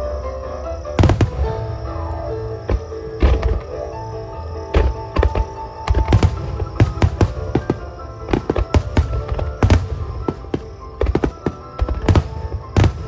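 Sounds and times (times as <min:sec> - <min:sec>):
music: 0:00.0 - 0:13.0
firework shells bursting: 0:01.0 - 0:03.8, 0:04.7 - 0:13.0.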